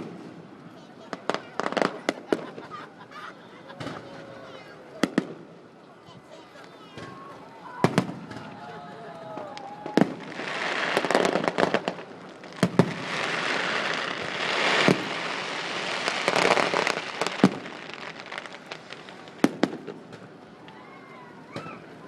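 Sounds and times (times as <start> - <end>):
fireworks bangs: 0.0 - 2.8, 3.8 - 5.6, 6.3 - 20.4
fireworks crackling: 0.0 - 22.0.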